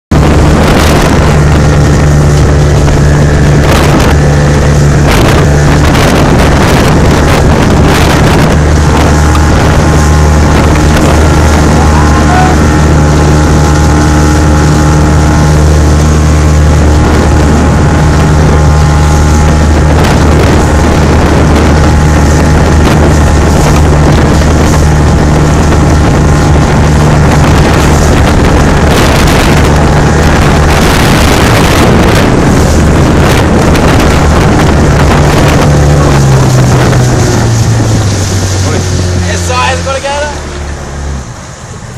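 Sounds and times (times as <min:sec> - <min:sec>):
motorboat engine running: 0:00.1 - 0:41.9
water rushing past hull: 0:00.1 - 0:41.9
wind buffeting microphone: 0:00.1 - 0:41.9.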